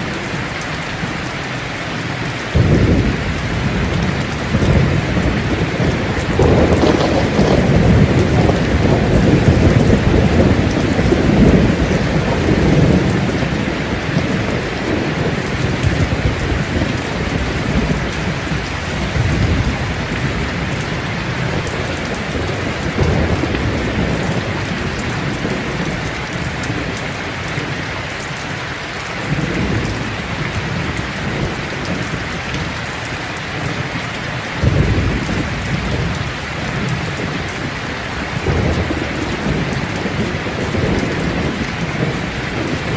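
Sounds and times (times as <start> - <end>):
heavy rain: 0.0 - 42.9
thunder rumbling: 2.5 - 27.9, 29.2 - 32.8, 34.5 - 42.9.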